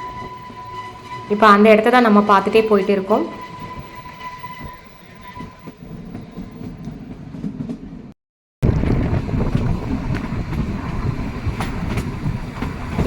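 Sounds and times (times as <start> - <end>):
train carriage rumble and clatter: 0.0 - 13.0.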